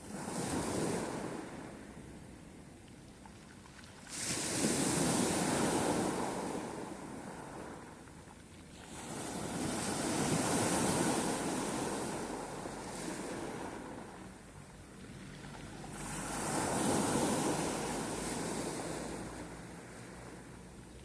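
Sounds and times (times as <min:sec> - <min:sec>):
sea waves breaking on shore: 0:00.0 - 0:02.6, 0:03.2 - 0:21.0.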